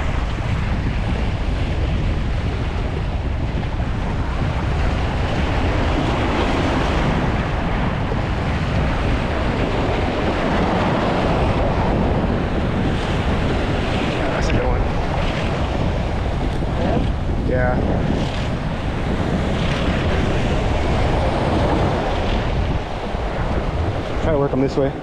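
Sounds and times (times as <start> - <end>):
waves splashing on shore: 0.0 - 25.0
wind buffeting microphone: 0.0 - 25.0.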